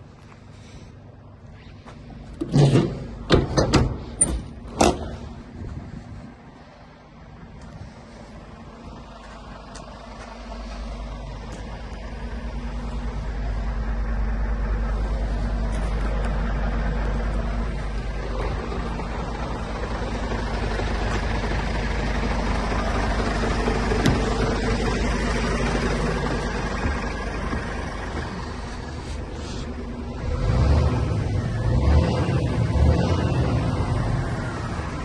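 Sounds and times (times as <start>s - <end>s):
diesel truck engine rumbling: 0.0s - 35.0s.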